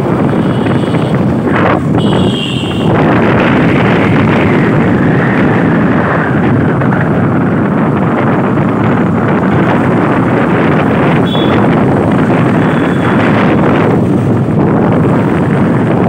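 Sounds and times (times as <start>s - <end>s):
road noise: 0.0s - 16.0s
wind rush over microphone: 0.0s - 16.0s.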